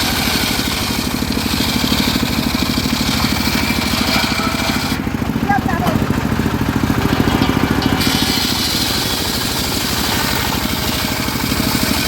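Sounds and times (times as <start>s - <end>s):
saw engine pulsing: 0.0s - 12.0s.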